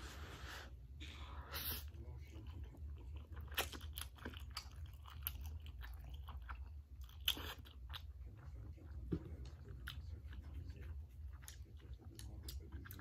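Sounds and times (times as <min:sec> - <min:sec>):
chewing: 0:01.8 - 0:13.0.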